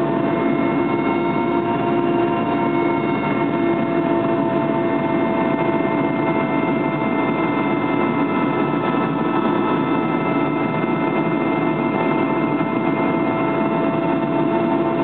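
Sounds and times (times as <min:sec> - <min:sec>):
aircraft cabin engine drone: 0:00.0 - 0:15.0
steady whining tones: 0:00.0 - 0:15.0.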